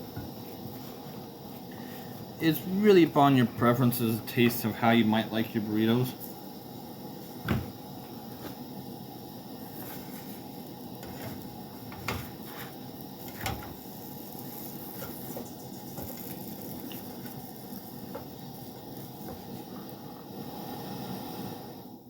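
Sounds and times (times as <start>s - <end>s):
gas burner hissing: 0.0s - 22.0s.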